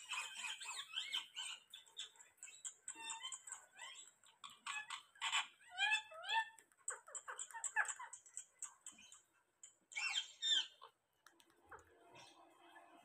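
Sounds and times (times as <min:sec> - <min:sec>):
parakeets calling and chattering: 0:00.0 - 0:13.0.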